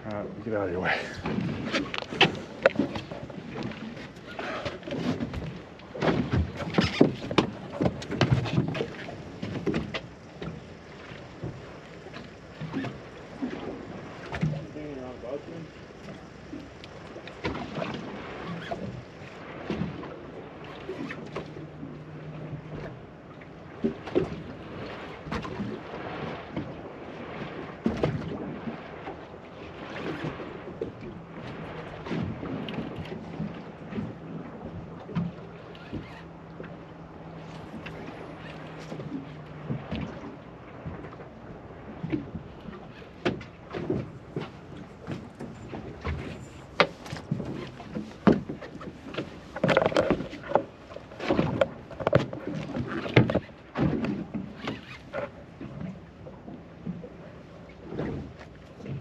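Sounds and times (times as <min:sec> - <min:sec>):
water against boat hull: 0:00.0 - 0:59.0.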